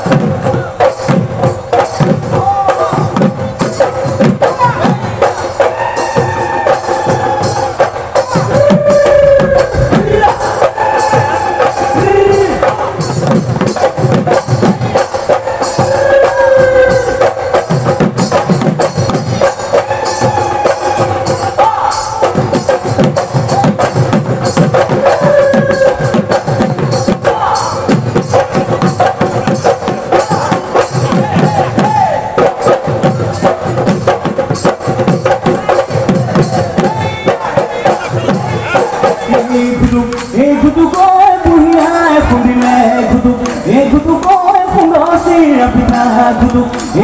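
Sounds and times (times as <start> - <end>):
dhol drums fast rhythm: 0.0 - 47.0.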